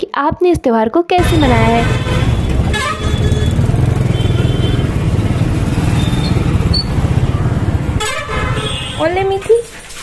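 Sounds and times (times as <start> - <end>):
motorcycle engine rumbling: 1.2 - 9.4.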